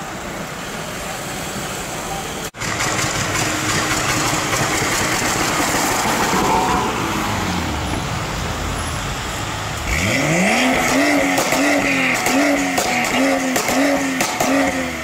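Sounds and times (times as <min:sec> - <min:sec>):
cars pulling away: 0:00.0 - 0:15.0
car engine revving: 0:02.6 - 0:15.0.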